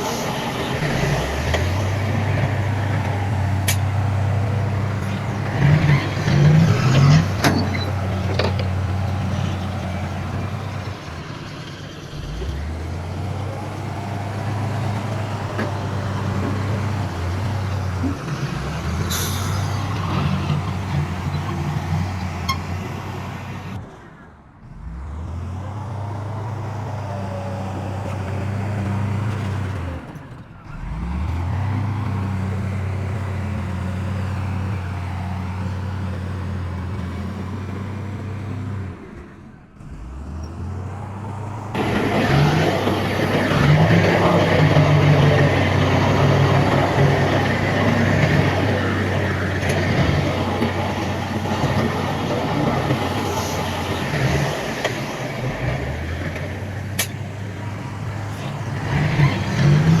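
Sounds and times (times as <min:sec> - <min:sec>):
diesel engines droning: 0:00.0 - 1:00.0.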